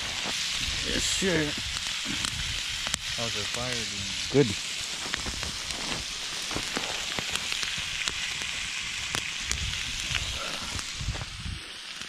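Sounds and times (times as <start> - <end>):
meat sizzling in skillet: 0.0 - 12.0.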